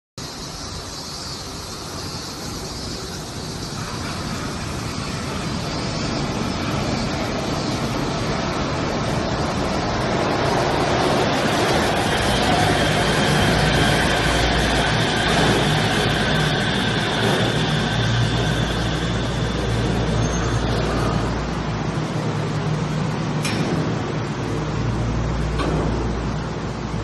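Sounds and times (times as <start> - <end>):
monorail train running: 0.2 - 27.0.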